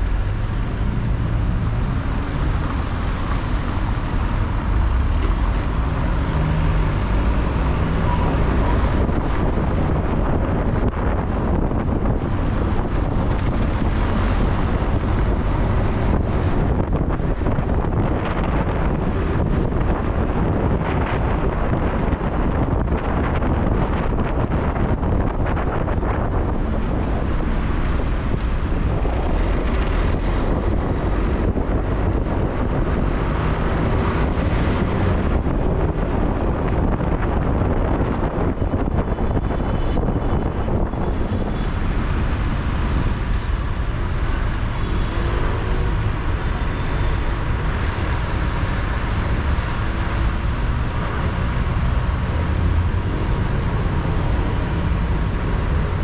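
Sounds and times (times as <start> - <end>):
vehicle road and engine noise: 0.0 - 56.0.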